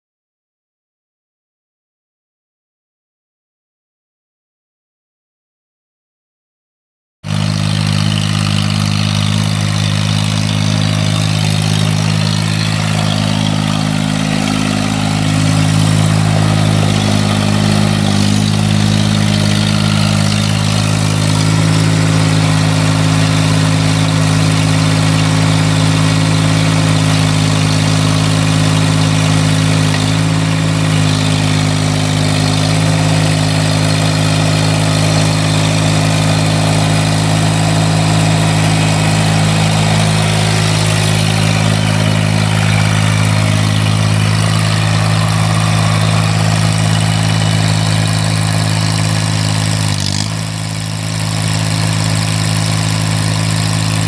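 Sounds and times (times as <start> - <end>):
diesel engine running: 7.3 - 54.0.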